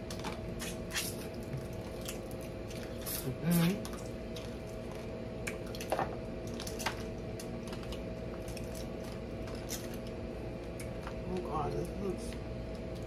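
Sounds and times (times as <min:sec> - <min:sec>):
faint steady hum: 0:00.0 - 0:13.0
wet squishing of eating seafood: 0:00.0 - 0:13.0.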